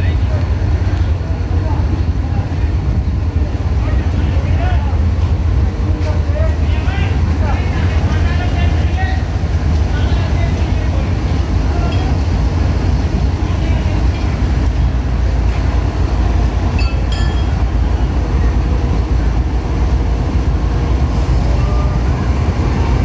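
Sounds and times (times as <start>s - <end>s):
locomotive rumbling: 0.0s - 23.0s.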